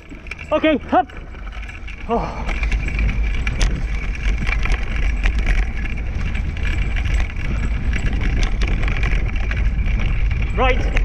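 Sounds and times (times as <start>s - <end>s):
clicks and rattles: 0.0s - 11.0s
scooter wheels rolling on trail: 0.0s - 11.0s
wind rumbling on microphone: 0.0s - 11.0s.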